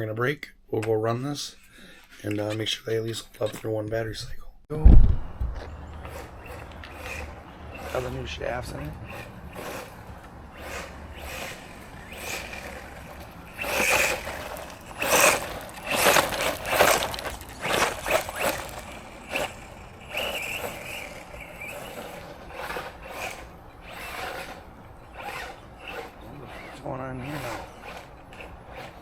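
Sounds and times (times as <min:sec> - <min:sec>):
tyres rushing: 0:05.2 - 0:29.0
toy truck motor whining: 0:05.3 - 0:29.0.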